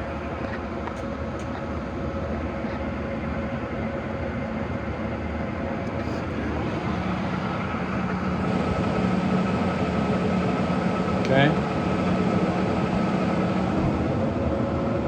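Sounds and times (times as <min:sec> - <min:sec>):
lathe humming with whine: 0:00.0 - 0:14.8.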